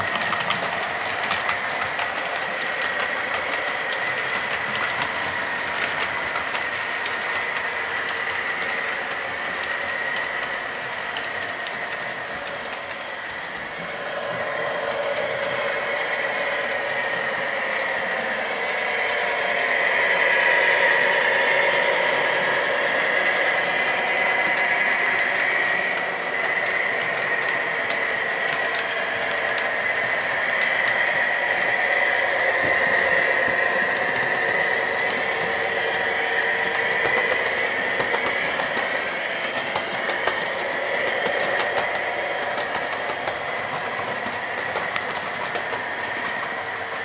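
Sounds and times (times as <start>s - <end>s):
model locomotive whining: 0.0s - 47.0s
wheels clicking over rail joints: 0.0s - 47.0s.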